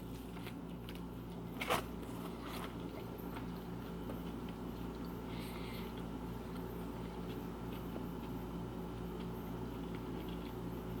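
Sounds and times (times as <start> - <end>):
person chewing sandwich: 0.0 - 11.0.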